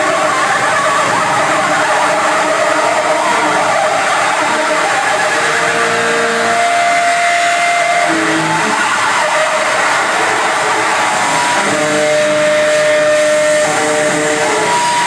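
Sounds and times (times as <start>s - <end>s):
harsh noise music: 0.0s - 15.0s.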